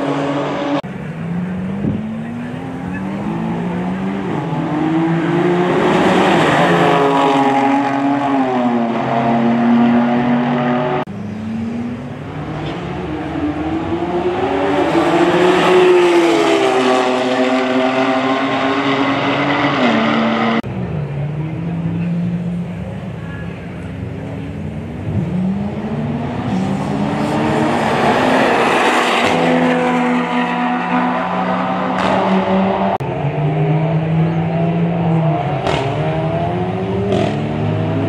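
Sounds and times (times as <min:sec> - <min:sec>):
race cars at full throttle: 0:00.0 - 0:38.0.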